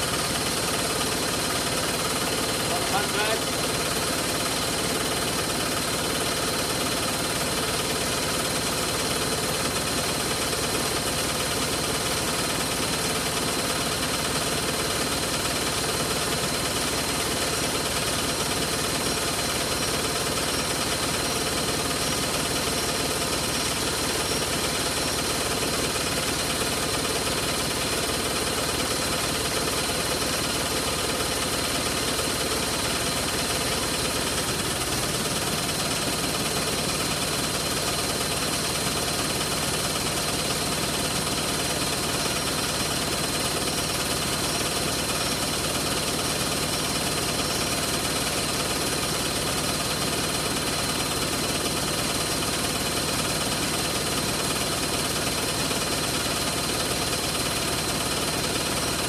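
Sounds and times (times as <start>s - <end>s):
washing machine drum spinning: 0.0s - 59.0s.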